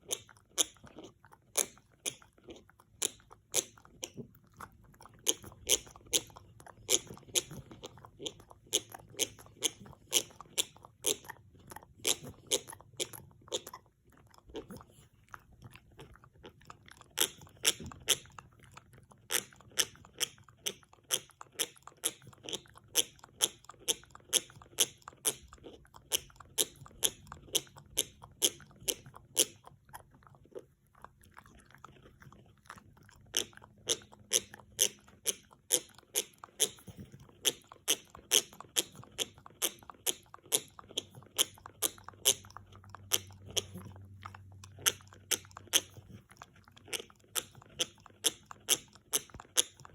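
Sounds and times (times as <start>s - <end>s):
dog teeth crunching on antler: 0.0s - 49.9s.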